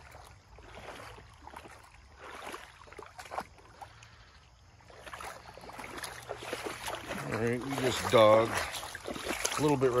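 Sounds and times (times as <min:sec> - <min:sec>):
creek water trickling over gravel: 0:00.0 - 0:10.0
small water splashes: 0:00.0 - 0:10.0.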